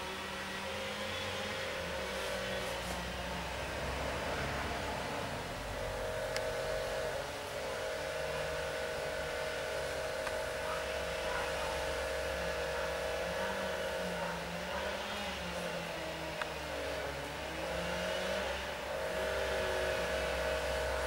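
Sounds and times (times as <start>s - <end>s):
low engine rumble: 0.0s - 21.0s
motor humming: 0.0s - 21.0s.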